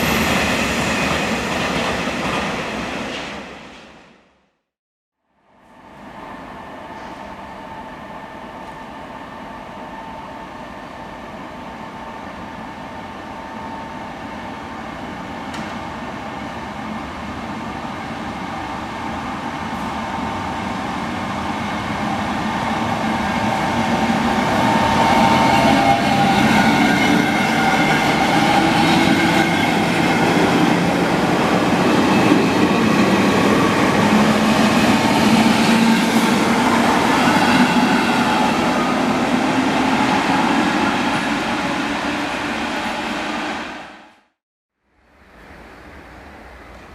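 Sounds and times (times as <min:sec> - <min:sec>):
train passing: 0:00.0 - 0:04.2, 0:05.6 - 0:44.2.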